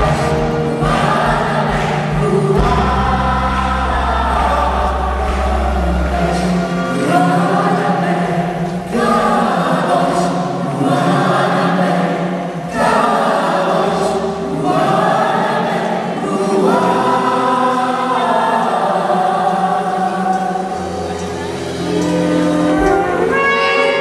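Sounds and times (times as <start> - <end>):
choir singing worship song: 0.0 - 24.0.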